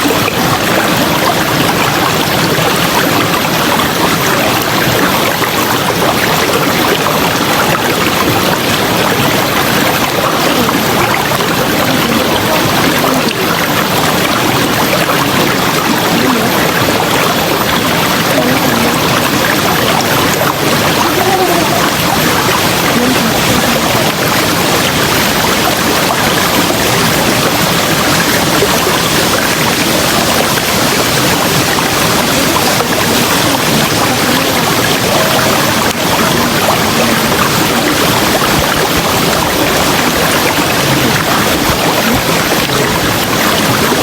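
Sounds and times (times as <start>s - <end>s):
river flowing: 0.0s - 44.0s
water bubbling: 0.0s - 44.0s.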